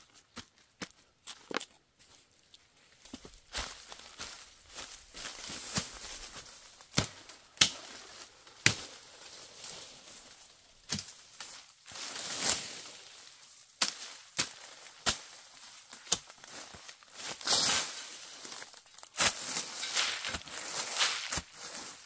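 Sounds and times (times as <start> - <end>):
footsteps through dry leaves: 2.0 - 22.0.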